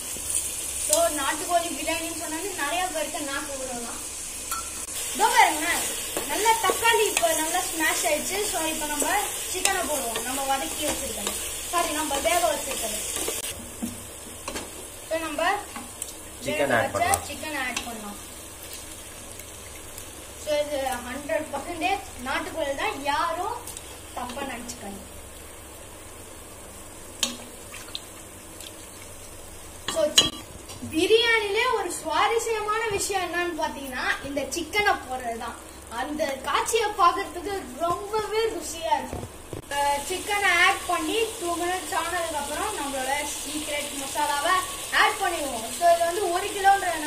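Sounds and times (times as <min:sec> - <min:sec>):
masala sizzling in oil: 0:00.0 - 0:47.0.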